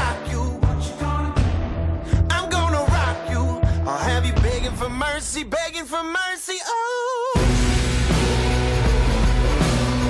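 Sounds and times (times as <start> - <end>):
pop hip-hop song with heavy bass: 0.0 - 10.0.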